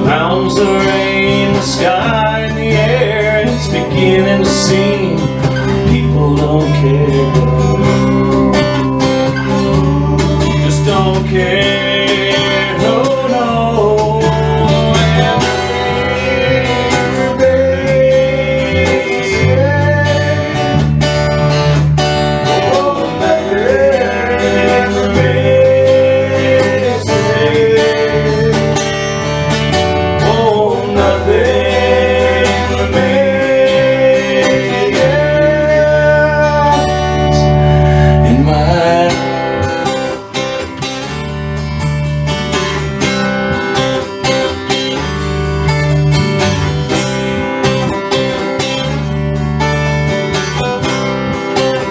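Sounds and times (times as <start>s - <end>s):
bass line: 0.0s - 51.9s
bending lead melody: 0.0s - 51.9s
strummed acoustic guitar: 0.0s - 51.9s.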